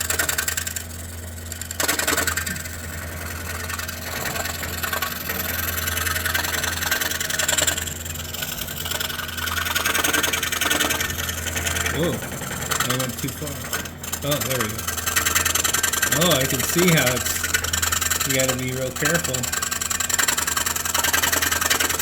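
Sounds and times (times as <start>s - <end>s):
scroll saw cutting wood: 0.0s - 22.0s.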